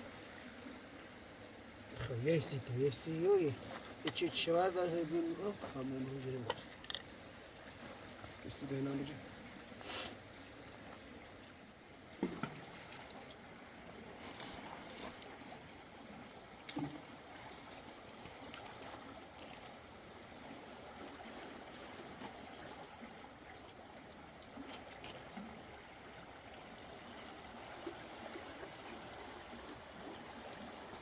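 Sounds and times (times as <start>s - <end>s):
stream flowing over rocks: 0.0s - 31.0s.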